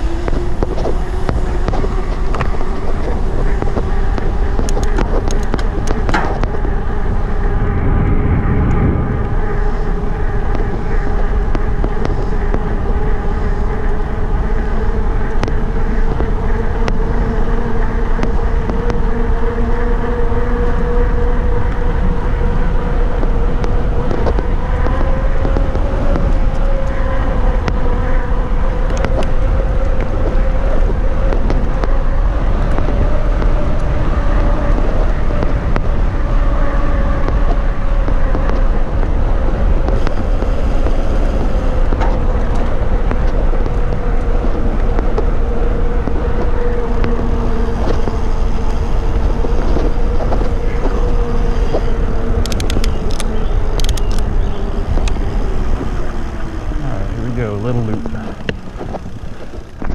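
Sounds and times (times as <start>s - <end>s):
bike tyres humming on pavement: 0.0s - 59.9s
wind rushing over microphone: 0.0s - 59.9s.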